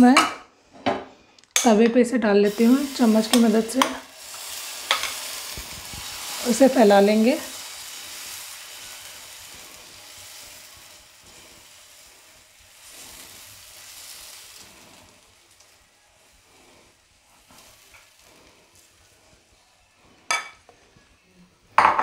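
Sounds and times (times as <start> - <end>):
batter sizzling on hot griddle: 2.5 - 20.5.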